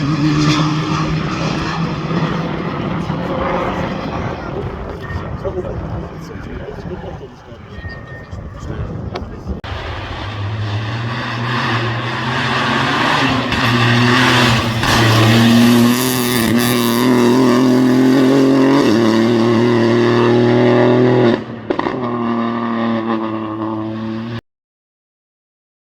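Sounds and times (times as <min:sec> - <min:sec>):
rally car engine revving: 0:00.0 - 0:06.3, 0:09.6 - 0:24.4.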